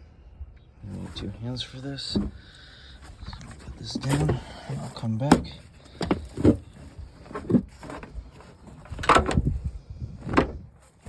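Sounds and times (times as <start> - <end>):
knocks and rustles of handling: 0.9 - 11.0.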